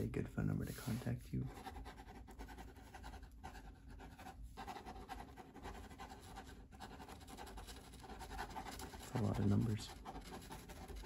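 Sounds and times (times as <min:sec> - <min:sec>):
pen scratching on paper: 0:00.7 - 0:11.0.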